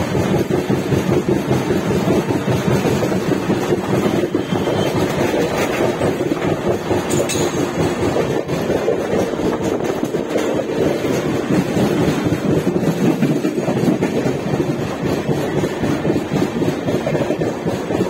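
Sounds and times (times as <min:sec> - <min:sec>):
train wheels rumbling: 0:00.0 - 0:18.0
wind buffeting microphone: 0:00.0 - 0:18.0.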